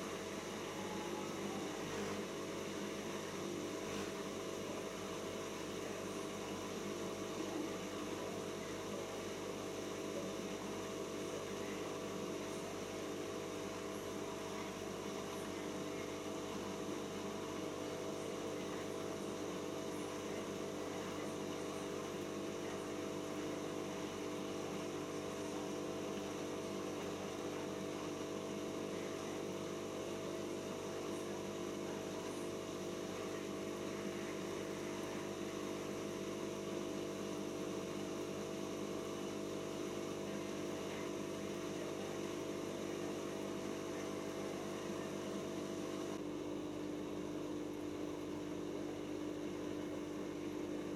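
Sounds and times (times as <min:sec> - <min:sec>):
washing machine spinning: 0:00.0 - 0:50.9.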